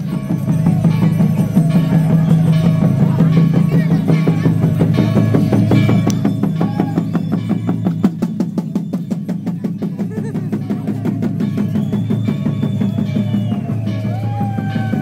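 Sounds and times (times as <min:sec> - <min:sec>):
drums playing fast beat: 0:00.0 - 0:15.0.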